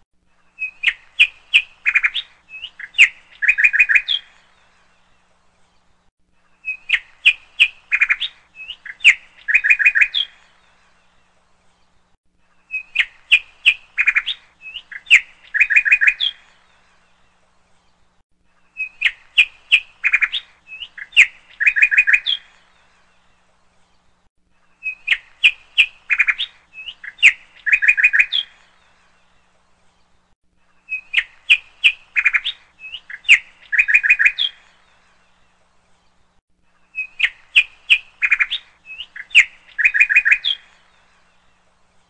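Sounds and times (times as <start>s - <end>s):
bird chirps and trills: 0.4s - 42.0s.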